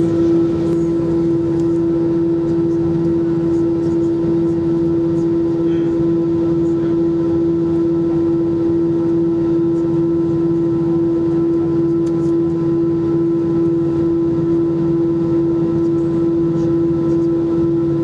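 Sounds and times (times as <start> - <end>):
airliner steady hum: 0.0 - 18.0.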